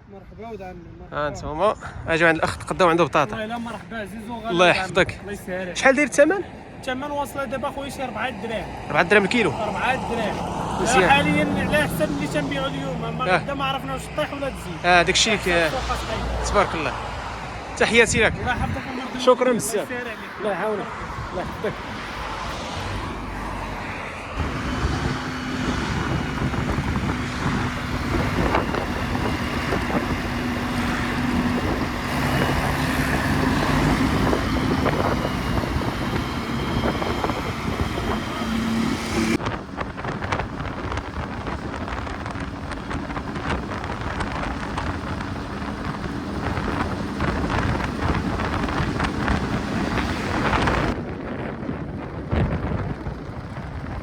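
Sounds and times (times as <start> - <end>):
road noise: 0.0 - 54.0
car engine hum: 0.4 - 54.0
wind on microphone: 6.1 - 54.0.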